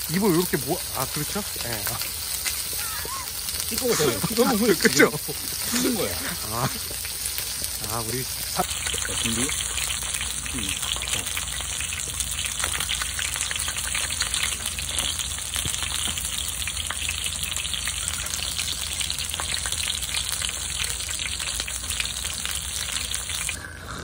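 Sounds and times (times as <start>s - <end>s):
pork sizzling and spitting: 0.0s - 24.0s.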